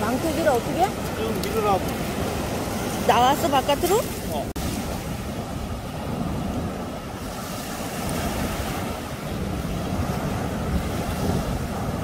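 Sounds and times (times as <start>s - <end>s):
ocean surf breaking: 0.0s - 12.0s
wind rumbling on microphone: 0.0s - 12.0s.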